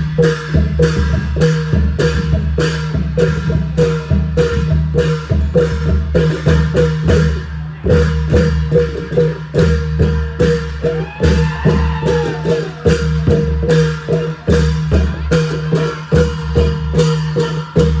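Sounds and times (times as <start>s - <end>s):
long drums beating: 0.0s - 18.0s.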